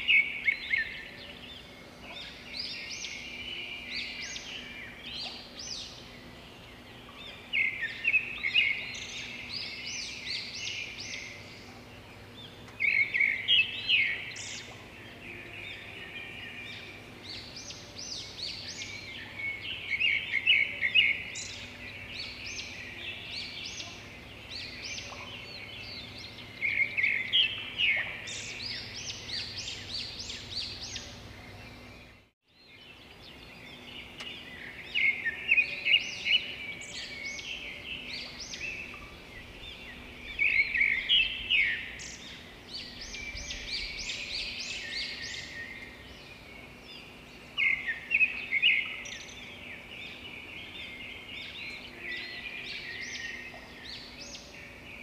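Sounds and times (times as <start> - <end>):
songbird chirping rapidly: 0.0 - 55.0.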